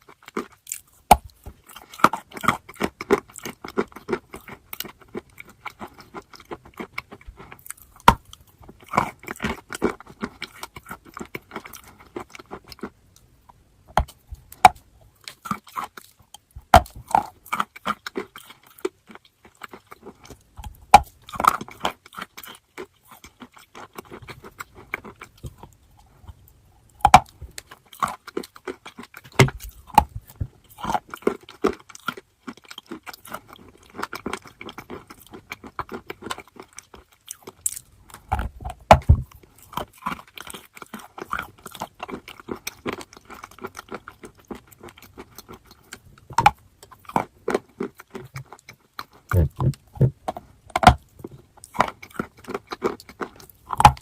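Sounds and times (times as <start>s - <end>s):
person chewing crunchy chalk: 0.0s - 54.0s.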